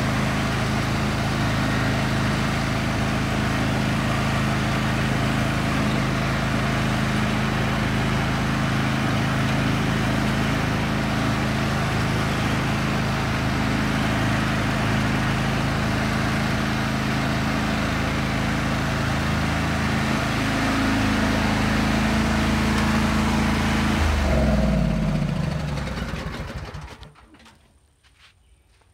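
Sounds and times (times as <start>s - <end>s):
riding lawn mower engine: 0.0s - 27.7s.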